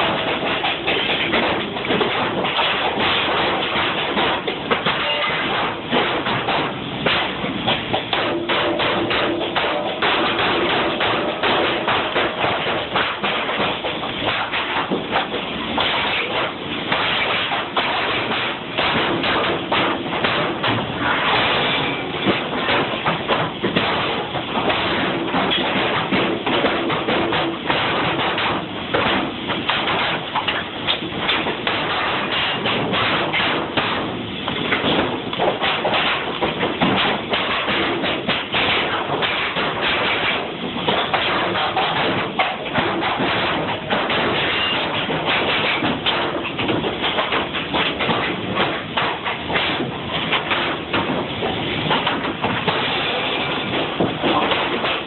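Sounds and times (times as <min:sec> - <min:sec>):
sharp irregular knocks: 0:00.0 - 0:55.0.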